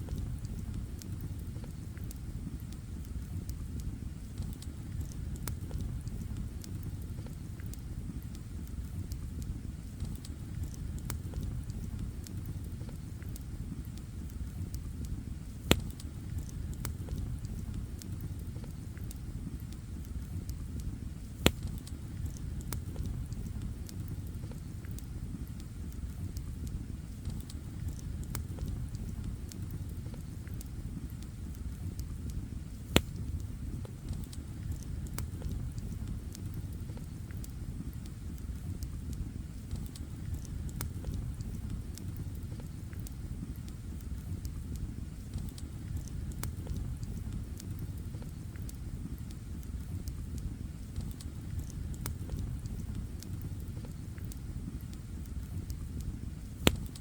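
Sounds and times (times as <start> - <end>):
campfire rumbling and crackling: 0.0 - 57.0
sharp pops of fire: 0.0 - 57.0.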